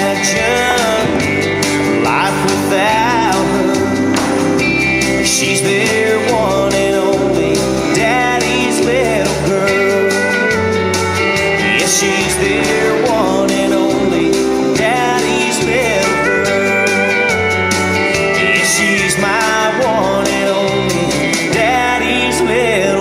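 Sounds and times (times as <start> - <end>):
country song with singer: 0.0 - 23.0.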